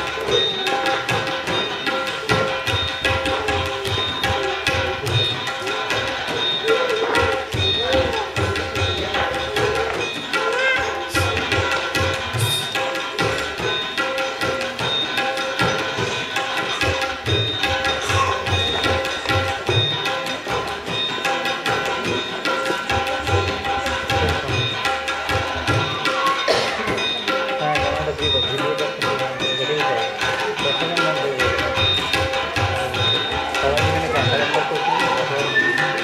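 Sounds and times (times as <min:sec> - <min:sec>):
tabla drumming: 0:00.0 - 0:36.0.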